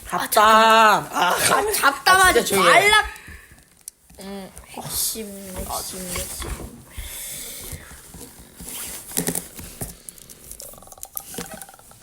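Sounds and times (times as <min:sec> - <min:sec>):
rustling and handling noise: 0:00.0 - 0:12.0.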